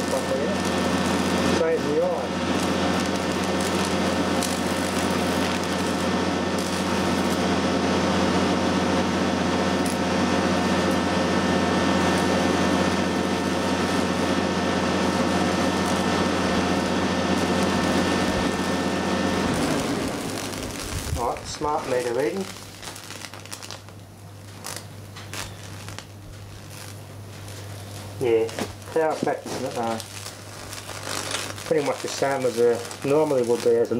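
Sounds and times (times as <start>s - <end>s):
electric arc crackles: 0.0s - 33.9s
high-voltage buzzing with hum: 0.0s - 33.9s.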